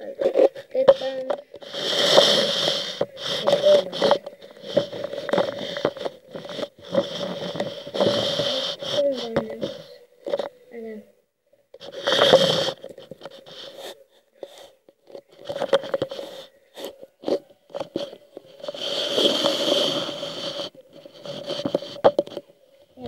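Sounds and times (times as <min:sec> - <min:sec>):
rustling and crunching: 0:00.0 - 0:10.5, 0:11.8 - 0:23.0.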